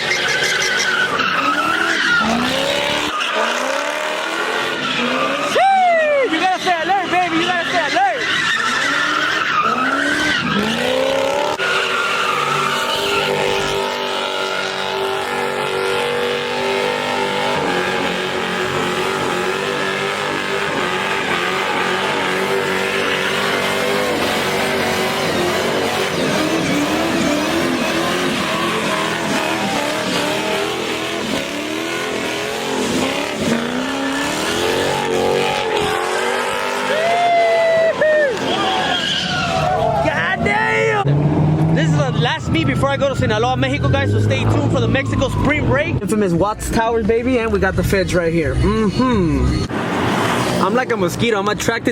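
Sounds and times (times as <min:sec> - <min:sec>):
car engine revving hard: 0:00.0 - 0:05.6, 0:06.4 - 0:37.1, 0:38.3 - 0:45.9
tyres squealing and skidding: 0:00.0 - 0:51.9.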